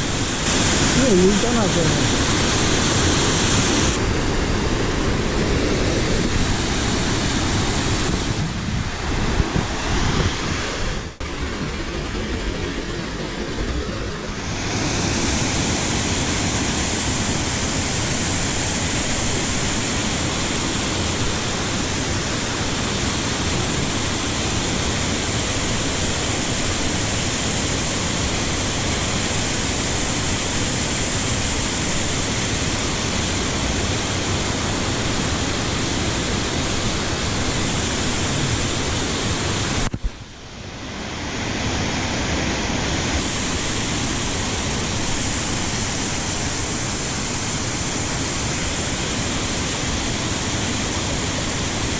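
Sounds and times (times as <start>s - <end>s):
stream water rushing: 0.0s - 51.9s.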